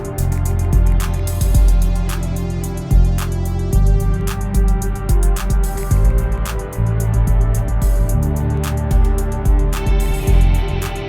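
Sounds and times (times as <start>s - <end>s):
produced track with strong bass: 0.0s - 11.0s.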